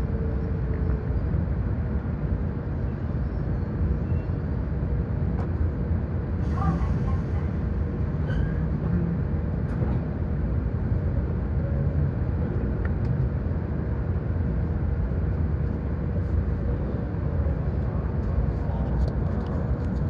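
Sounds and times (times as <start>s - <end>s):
train carriage low hum: 0.0s - 20.0s.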